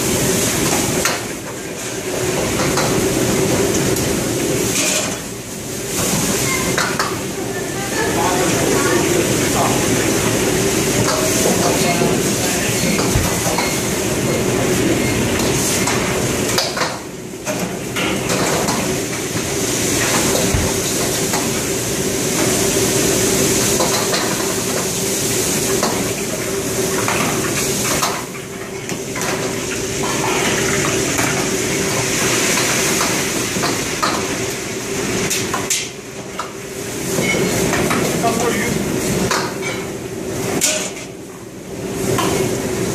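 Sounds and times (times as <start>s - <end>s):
kitchen exhaust humming: 0.0s - 42.9s
woks and ladles clanking: 0.0s - 42.9s.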